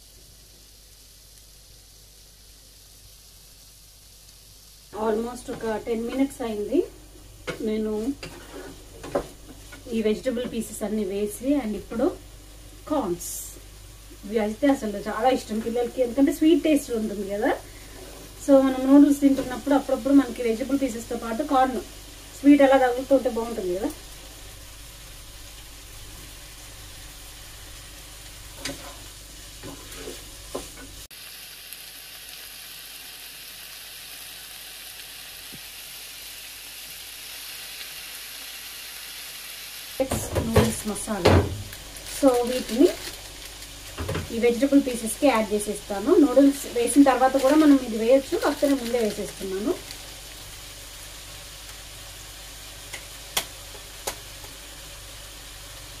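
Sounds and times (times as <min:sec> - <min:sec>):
vegetables sizzling in a pan: 0:00.0 - 0:56.0.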